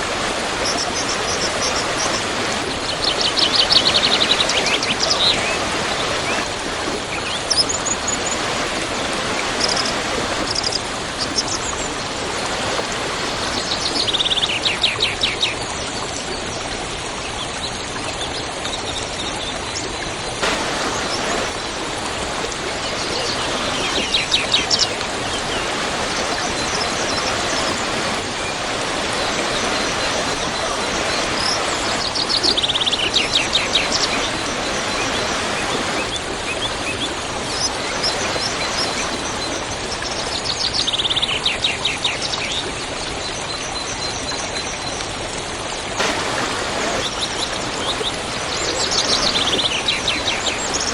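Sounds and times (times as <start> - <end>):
waterfall rushing: 0.0 - 15.4, 20.2 - 40.8, 45.9 - 50.9.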